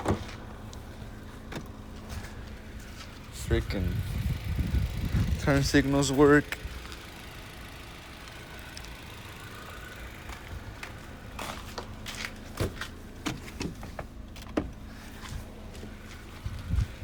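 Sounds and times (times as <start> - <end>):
low car hum: 0.0 - 17.0
turn signal ticking: 0.0 - 17.0.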